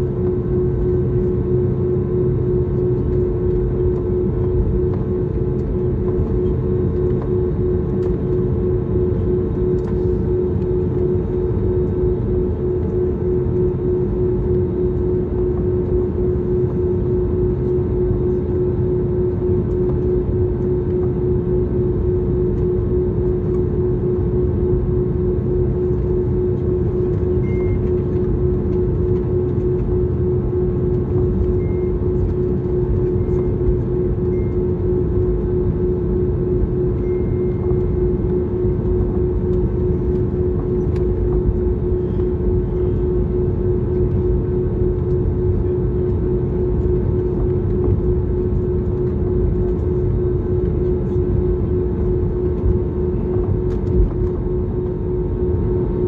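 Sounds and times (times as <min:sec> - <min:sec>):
airliner cabin rumble: 0:00.0 - 0:56.0
constant hum: 0:00.0 - 0:56.0.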